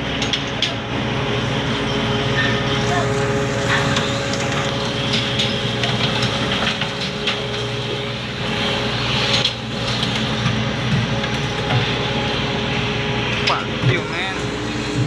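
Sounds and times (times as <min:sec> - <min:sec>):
ship engine humming: 0:00.8 - 0:15.0.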